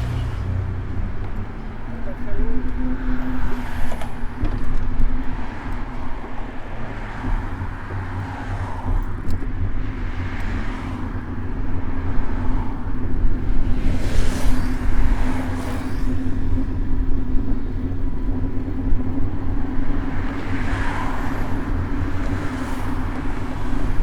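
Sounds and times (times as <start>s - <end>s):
cars passing: 0.0s - 24.0s.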